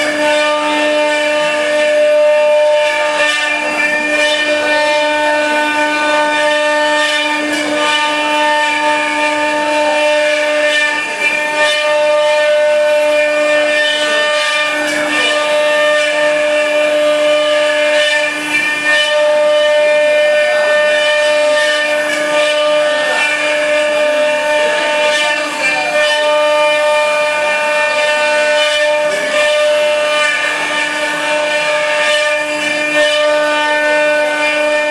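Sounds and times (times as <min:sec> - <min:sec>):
router spindles whining: 0:00.0 - 0:34.9.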